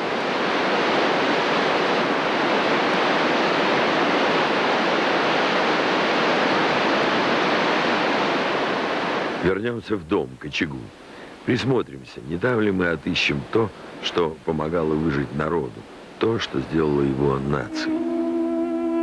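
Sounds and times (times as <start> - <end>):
waterfall rushing: 0.0 - 10.0, 10.7 - 19.0.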